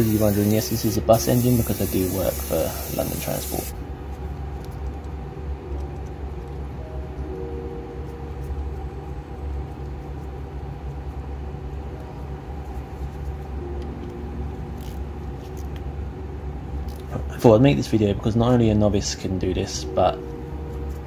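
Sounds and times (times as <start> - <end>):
faint wavering hum: 0.0 - 21.0
low mechanical rumble: 0.0 - 21.0.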